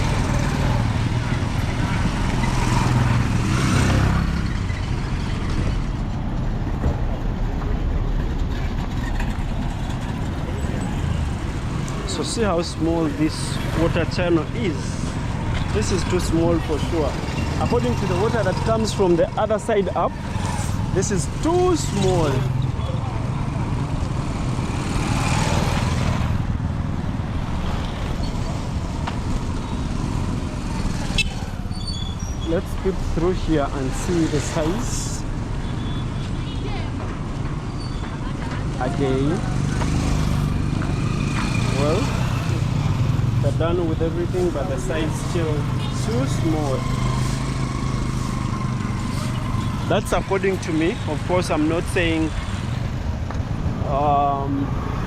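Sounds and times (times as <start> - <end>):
vehicle passing: 0.0 - 31.7, 38.5 - 55.0
steady traffic rumble: 0.0 - 55.0.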